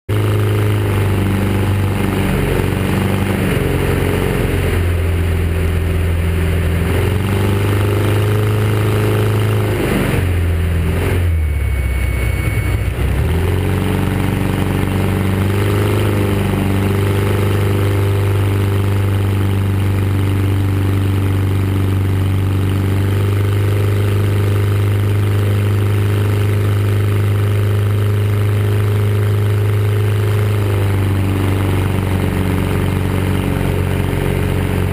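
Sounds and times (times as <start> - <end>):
light aircraft engine and propeller: 0.1 - 34.9.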